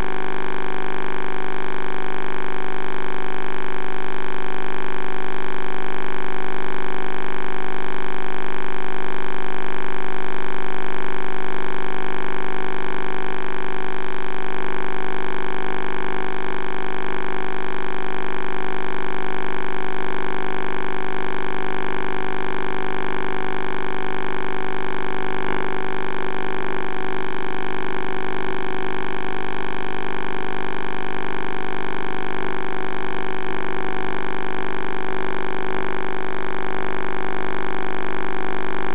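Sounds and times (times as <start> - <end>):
electronic hum and buzz: 0.0 - 38.9.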